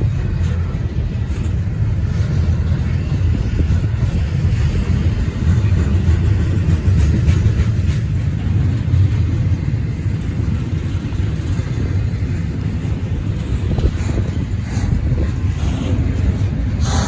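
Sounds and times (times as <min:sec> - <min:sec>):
freight train wheels rumbling on rail: 0:00.0 - 0:17.0.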